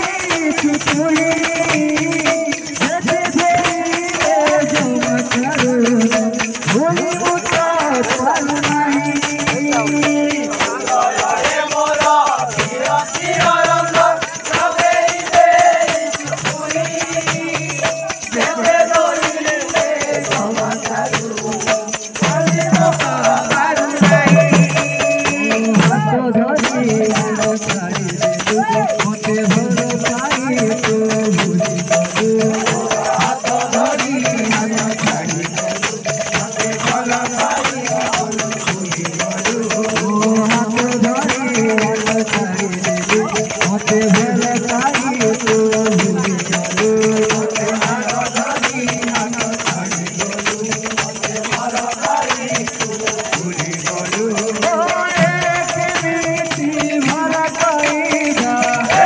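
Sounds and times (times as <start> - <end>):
fast jingling percussion: 0.0 - 59.0
wavering devotional melody: 0.0 - 59.0.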